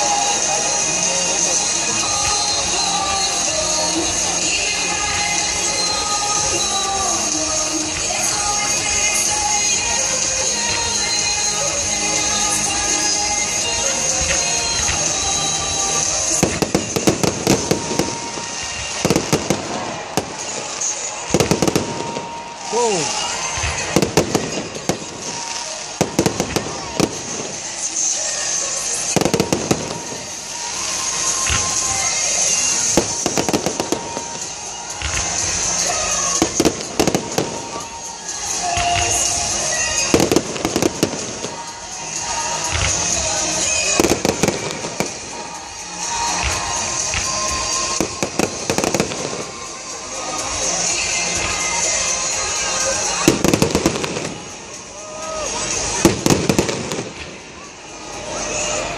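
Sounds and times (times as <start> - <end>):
fireworks cracking and popping: 0.0 - 58.9
music: 0.0 - 58.9.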